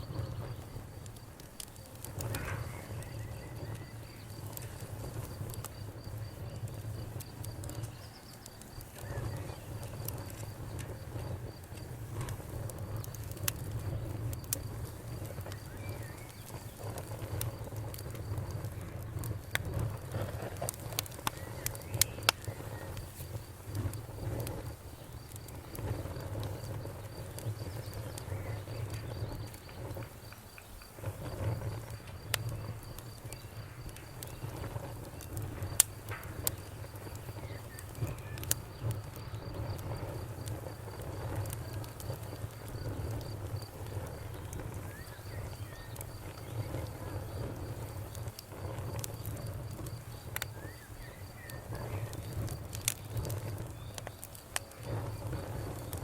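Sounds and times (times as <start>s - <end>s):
wood fire crackling and popping: 0.0s - 56.0s
cricket chirping: 1.8s - 19.5s, 20.2s - 56.0s.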